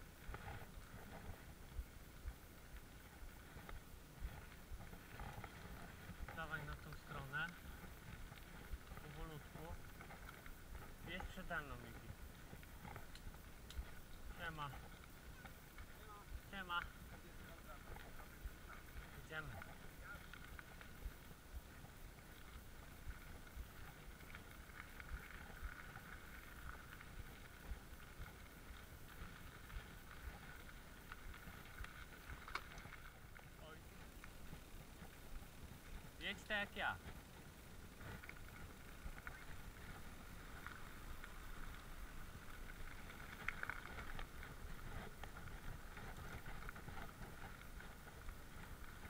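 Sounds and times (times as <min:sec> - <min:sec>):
bike tyres rumbling on gravel: 0:00.0 - 0:49.0.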